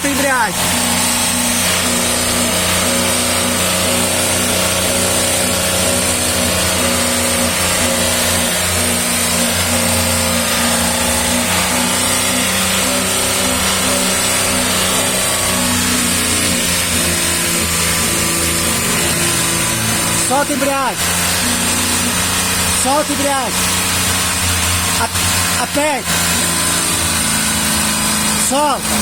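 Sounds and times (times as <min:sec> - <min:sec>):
clutch noise: 0:00.0 - 0:29.0.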